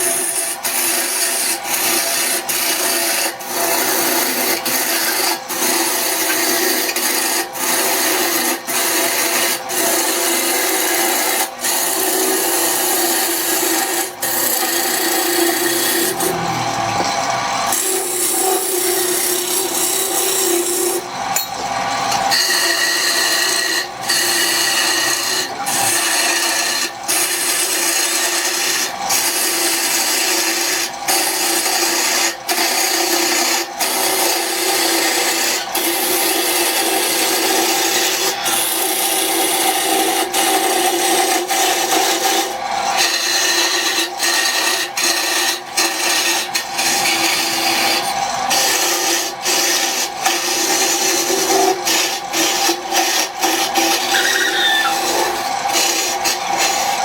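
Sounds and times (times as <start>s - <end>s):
tool rasping against wood: 0.0s - 57.0s.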